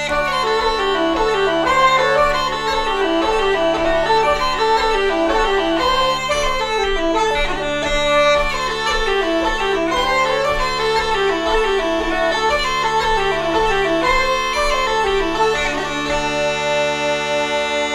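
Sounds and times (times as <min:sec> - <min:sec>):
bagpipes playing a jig: 0:00.0 - 0:17.9
wooden flute: 0:00.0 - 0:17.9.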